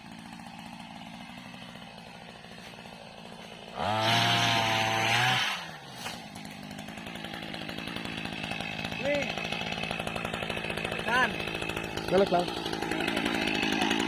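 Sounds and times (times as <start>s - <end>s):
small engine idling and revving: 0.0s - 14.0s.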